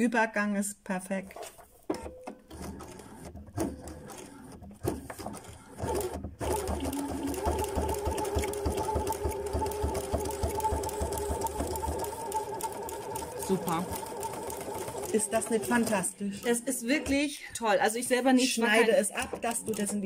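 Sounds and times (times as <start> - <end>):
sewing machine stitching leather: 1.4 - 20.0.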